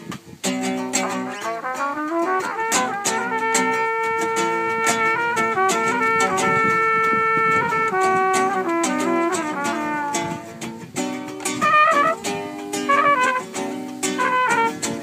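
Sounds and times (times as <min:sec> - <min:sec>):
acoustic guitars strumming: 0:00.0 - 0:15.0
trumpet melody: 0:00.8 - 0:15.0.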